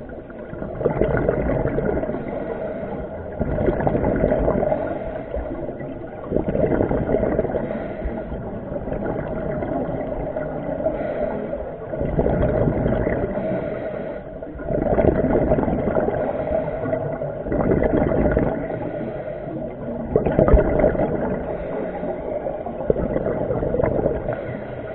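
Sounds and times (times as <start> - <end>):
underwater rushing and bubbling: 0.0 - 24.9.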